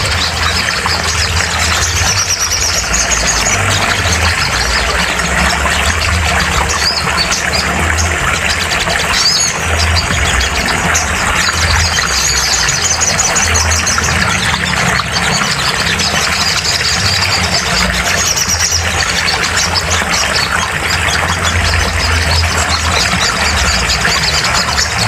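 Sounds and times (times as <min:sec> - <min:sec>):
bird high-pitched chirping: 0:00.0 - 0:25.0
steady noisy background hum: 0:00.0 - 0:25.0.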